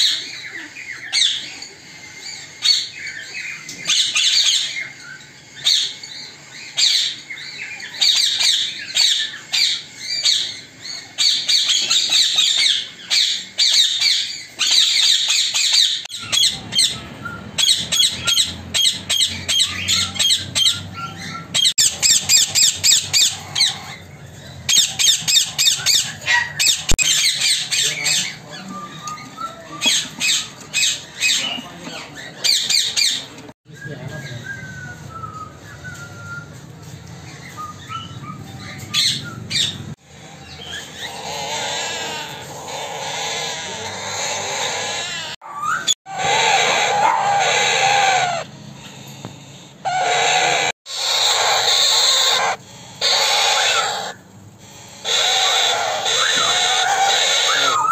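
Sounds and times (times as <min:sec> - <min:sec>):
parakeets squawking: 0:00.0 - 0:33.6, 0:37.1 - 0:57.9.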